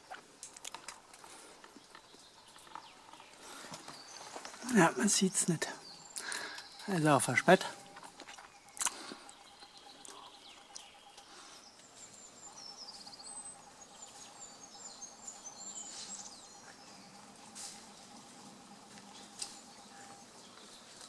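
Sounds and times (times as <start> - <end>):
faint songbird song: 0.0 - 21.0.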